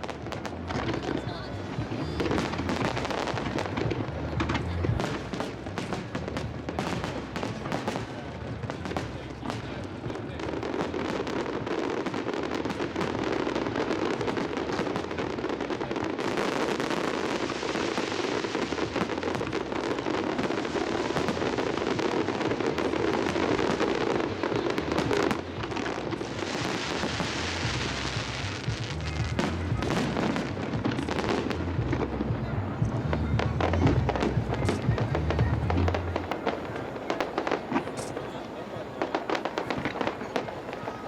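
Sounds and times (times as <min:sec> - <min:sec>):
fireworks crackling: 0:00.0 - 0:41.0.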